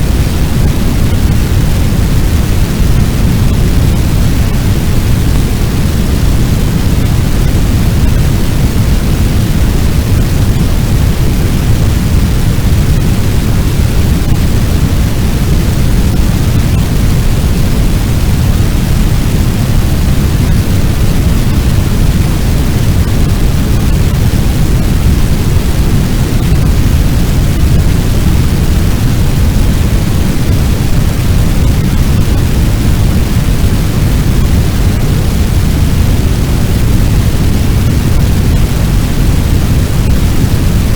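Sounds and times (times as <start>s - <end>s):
deep fire rumble: 0.0s - 40.9s.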